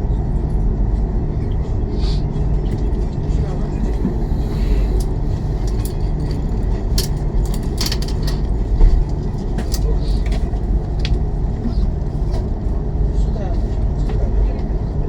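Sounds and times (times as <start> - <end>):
train rumble inside passenger car: 0.0 - 15.0.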